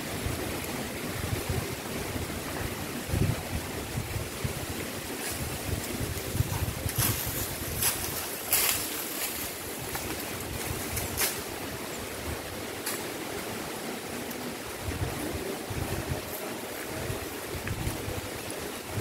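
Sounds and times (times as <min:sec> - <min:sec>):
wind blowing on microphone: 0:00.0 - 0:19.0.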